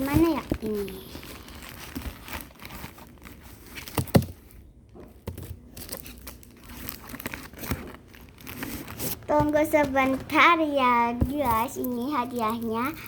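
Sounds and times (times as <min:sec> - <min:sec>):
packaging crinkling: 0:00.0 - 0:10.4, 0:11.3 - 0:13.0.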